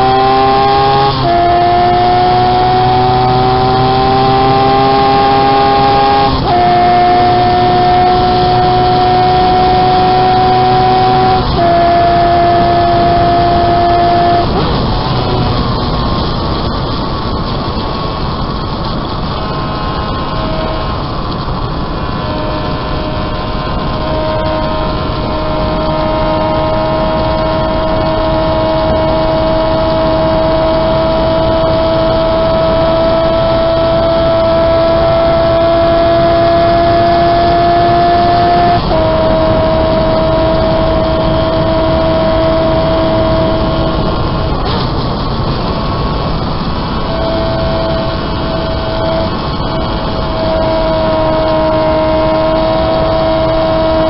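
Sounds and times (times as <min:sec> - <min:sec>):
loud wind rush: 0:00.0 - 0:54.0
motorcycle engine at high revs: 0:00.0 - 0:54.0.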